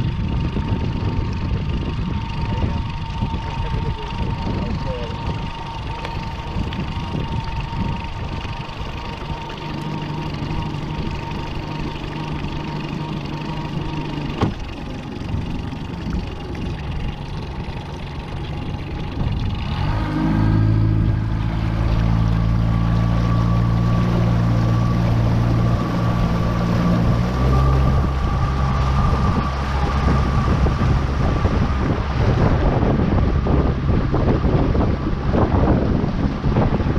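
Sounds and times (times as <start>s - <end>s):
outboard motor running: 0.0s - 36.9s
wind and water noise: 0.0s - 36.9s.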